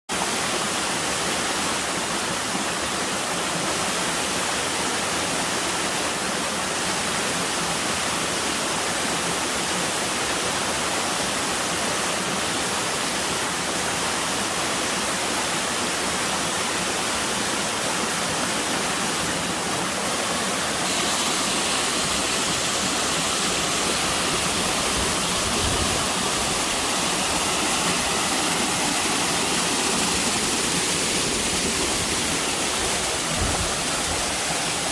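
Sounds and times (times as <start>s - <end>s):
waterfall rushing over rocks: 0.1s - 34.9s.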